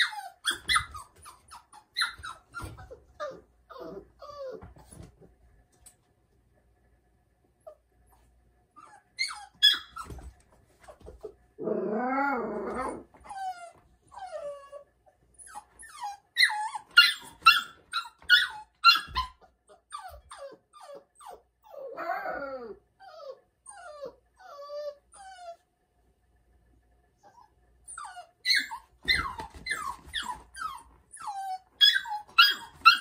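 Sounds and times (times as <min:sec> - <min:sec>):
puppy wailing: 0:00.0 - 0:05.1, 0:08.8 - 0:25.6, 0:27.2 - 0:33.0
puppy yelping and whining: 0:00.0 - 0:05.1, 0:07.6 - 0:25.7, 0:27.2 - 0:33.0.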